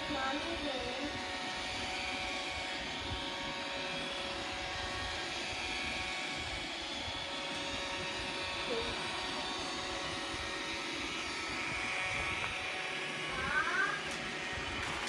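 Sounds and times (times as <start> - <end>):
motor whine: 0.0 - 15.0
robot vacuum whirring: 0.0 - 15.0.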